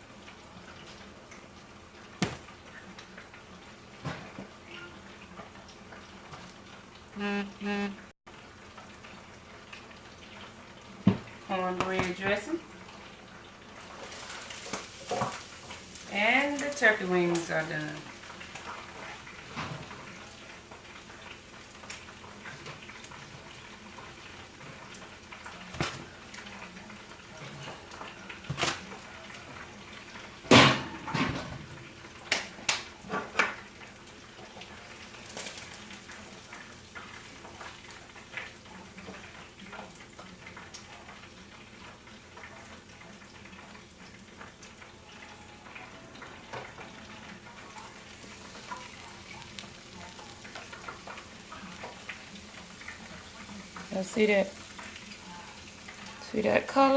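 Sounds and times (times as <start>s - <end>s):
meat sizzling in hot grease: 8.3s - 56.9s.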